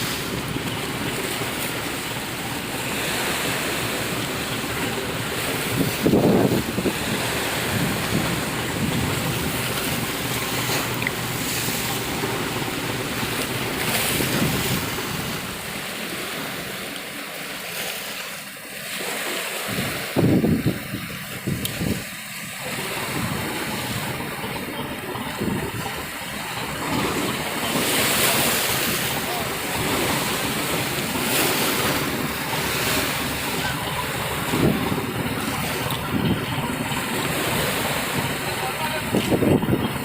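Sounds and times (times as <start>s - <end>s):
wind buffeting microphone: 0.0s - 15.8s, 19.7s - 40.0s
sea water rushing: 0.0s - 40.0s.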